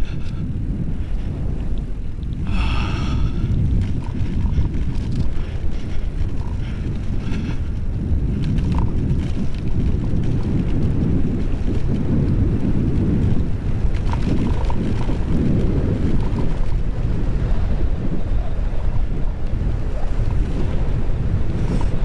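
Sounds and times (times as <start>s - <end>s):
bike tyres rumbling on grass: 0.0s - 22.0s
wind buffeting microphone: 0.0s - 22.0s.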